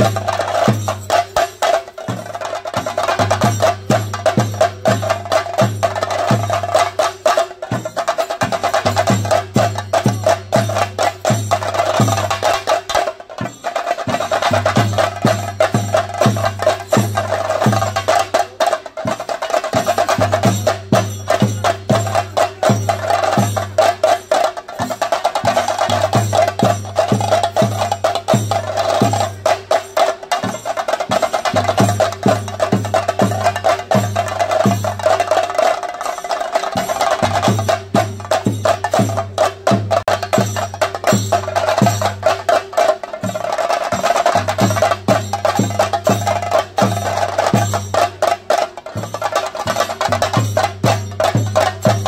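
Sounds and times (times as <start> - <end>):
drums beaten in fast rhythm: 0.0 - 52.0.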